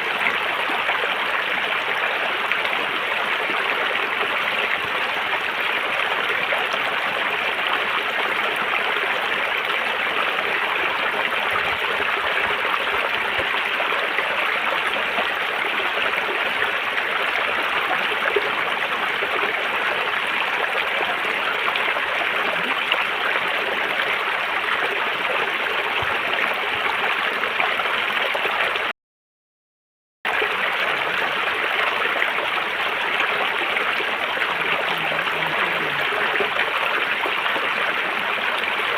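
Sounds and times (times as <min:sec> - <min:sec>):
river water flowing: 0:00.0 - 0:28.9, 0:30.3 - 0:38.9.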